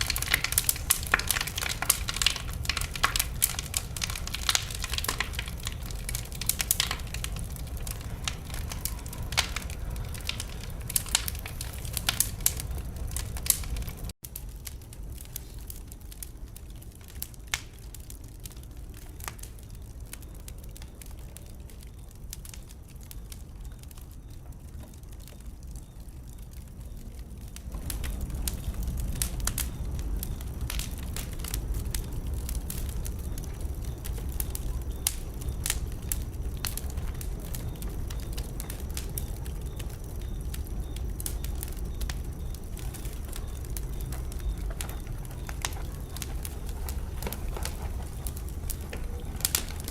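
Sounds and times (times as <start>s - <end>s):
low rumble of flame: 0.0s - 49.9s
wood fire crackling and popping: 0.0s - 49.9s.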